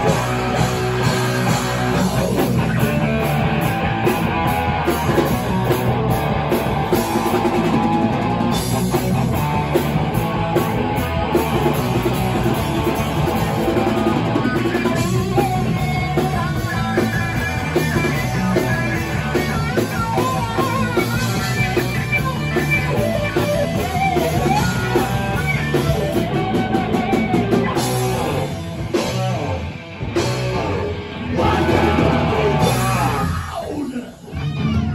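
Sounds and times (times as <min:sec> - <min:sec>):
punk rock band playing: 0:00.0 - 0:34.9.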